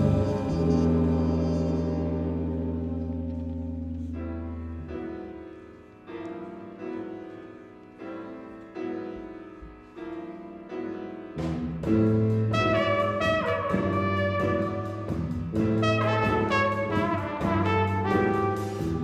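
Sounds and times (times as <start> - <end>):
band playing soft chords: 0.0 - 19.0.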